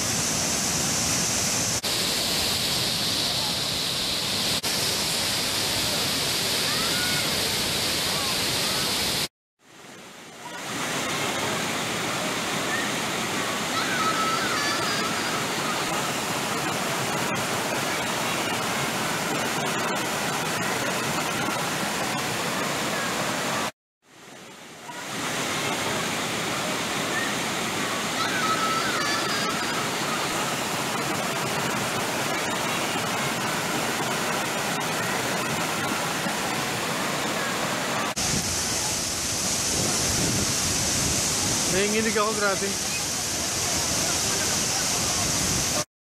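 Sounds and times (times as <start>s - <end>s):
stream water rushing over boulders: 0.0s - 45.9s.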